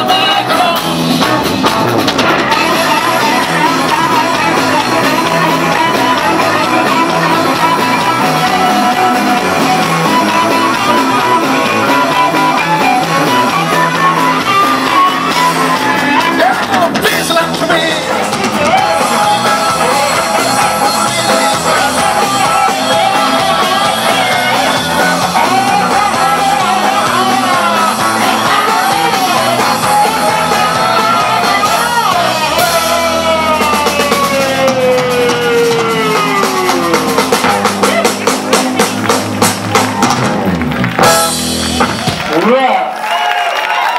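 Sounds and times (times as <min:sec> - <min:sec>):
live rock band playing: 0:00.0 - 0:43.9
man singing long notes: 0:02.4 - 0:38.6.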